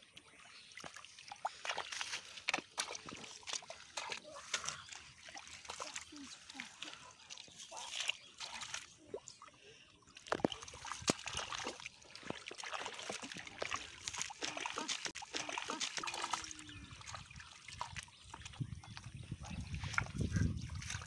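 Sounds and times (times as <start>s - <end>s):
muddy water splashing: 0.0s - 21.0s.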